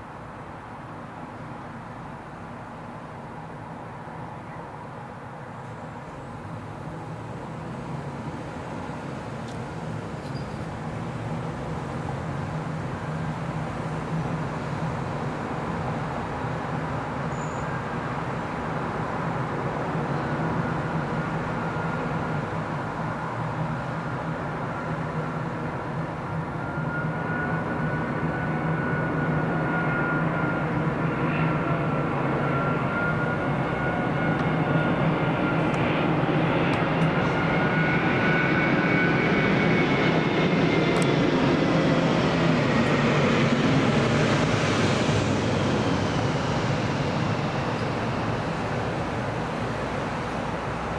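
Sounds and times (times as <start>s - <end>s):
jet airliner roar passing overhead: 1.3s - 50.9s.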